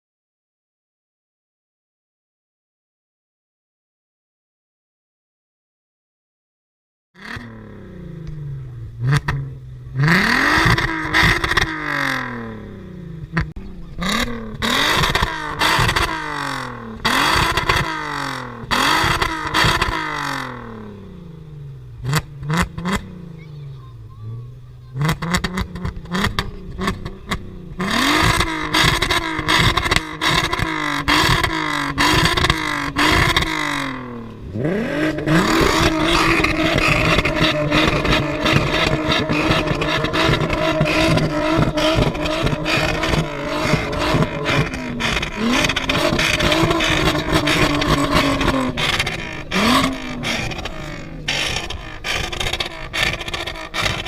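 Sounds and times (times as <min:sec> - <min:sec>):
car engine revving with crackles: 0:07.2 - 0:54.0.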